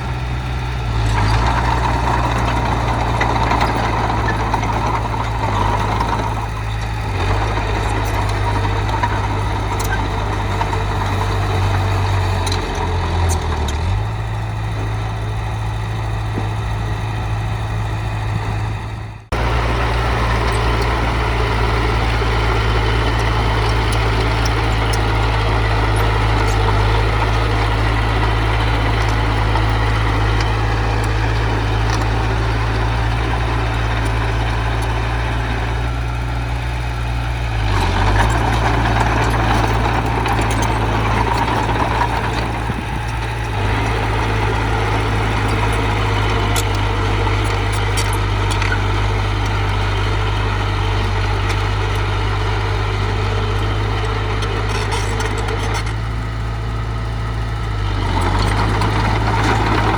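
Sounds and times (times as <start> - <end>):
diesel engine of heavy machinery: 0.0 - 59.9.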